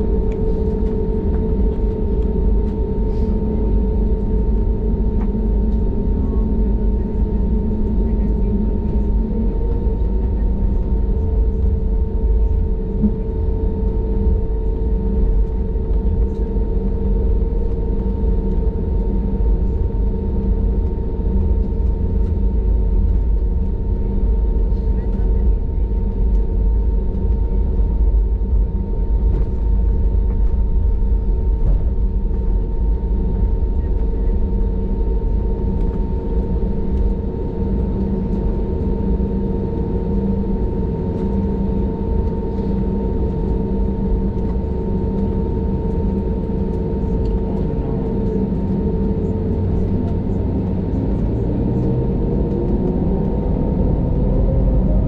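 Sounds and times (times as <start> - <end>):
cabin low rumble: 0.0 - 55.0
jet engine hum and whine: 0.0 - 55.0.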